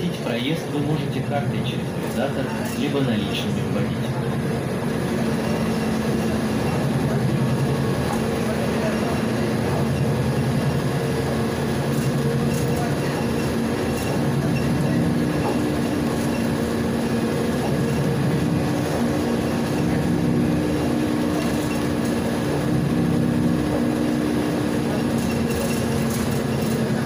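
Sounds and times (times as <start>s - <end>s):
bus engine droning: 0.0s - 27.0s
road and tyre noise: 0.0s - 27.0s.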